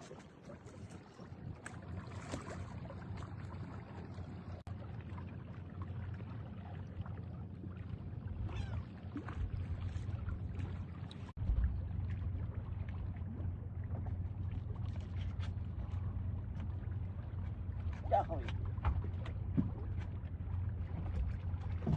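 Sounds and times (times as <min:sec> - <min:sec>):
waves: 0:00.0 - 0:21.9
wind: 0:00.0 - 0:21.9.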